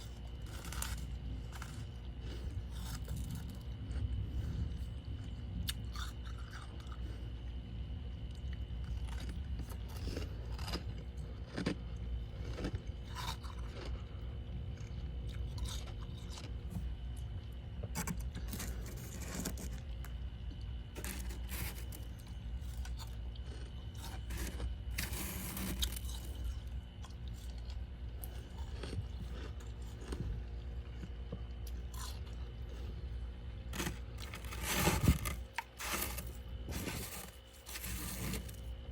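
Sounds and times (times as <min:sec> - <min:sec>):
chewing ice crunches: 0:00.0 - 0:38.9
low hum: 0:00.0 - 0:38.9.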